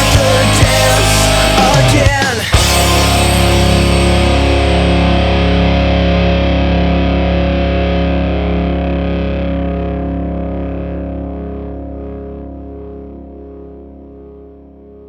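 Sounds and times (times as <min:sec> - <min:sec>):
distorted electric guitar chord: 0:00.0 - 0:15.0.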